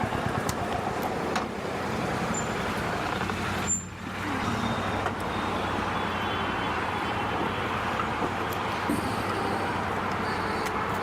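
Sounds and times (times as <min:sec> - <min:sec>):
road and traffic noise: 0:00.0 - 0:11.0
vehicle engine running: 0:00.0 - 0:11.0.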